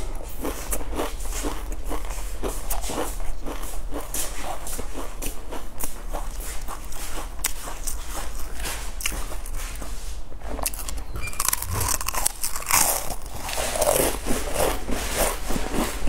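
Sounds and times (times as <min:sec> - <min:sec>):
crunching potato crisps: 0:00.3 - 0:09.7, 0:10.6 - 0:16.0.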